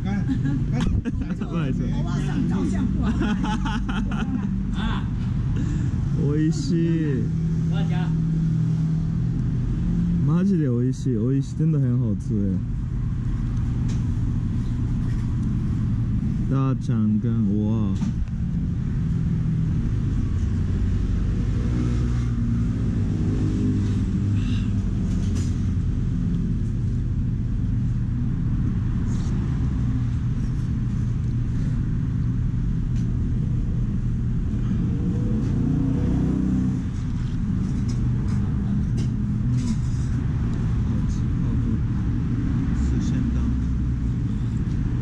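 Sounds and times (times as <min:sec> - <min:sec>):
low rumble of road traffic: 0:00.0 - 0:45.0.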